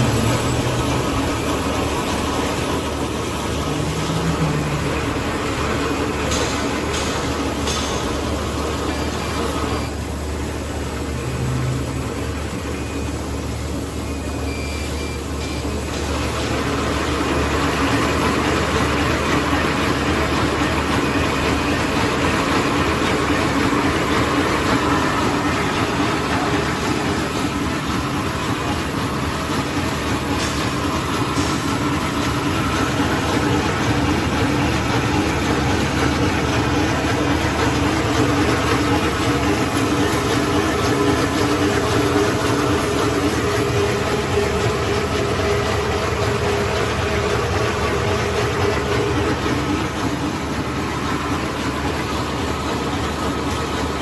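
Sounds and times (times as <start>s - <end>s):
packing machine running: 0.0s - 54.0s.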